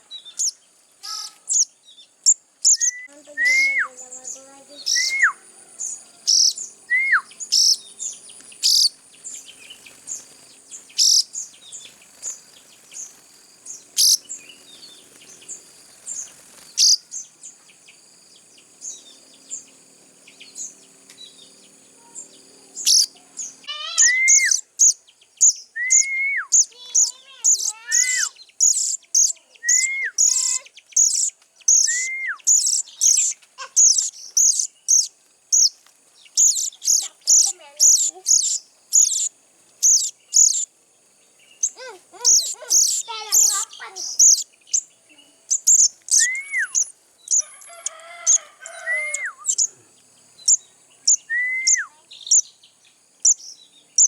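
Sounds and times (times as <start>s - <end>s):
young birds chirping: 0.0s - 54.0s.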